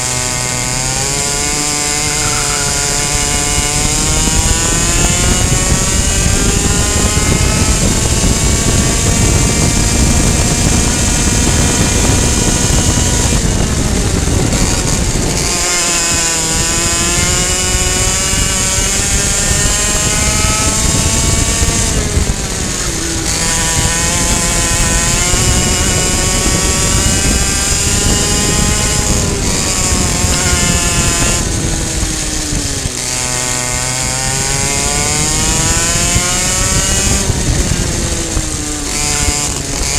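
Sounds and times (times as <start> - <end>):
kart engine revving: 0.0 - 39.9
wind rush on microphone: 0.0 - 39.9.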